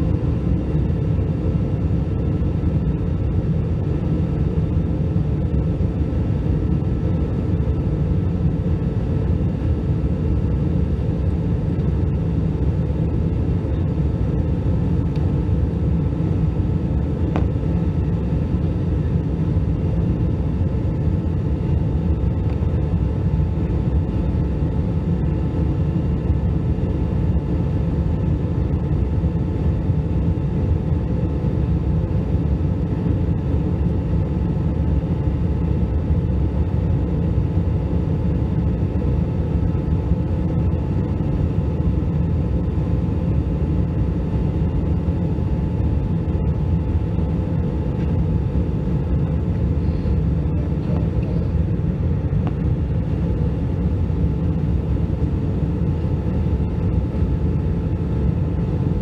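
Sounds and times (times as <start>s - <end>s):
faint steady hum: 0.0s - 59.0s
jet engine and airflow rumble: 0.0s - 59.0s.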